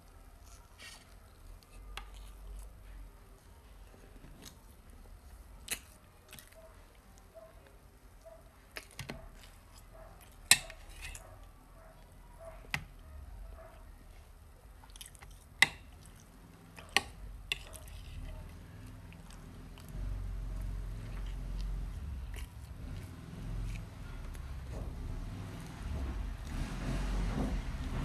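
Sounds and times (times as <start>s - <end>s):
child chewing: 0.0s - 26.7s.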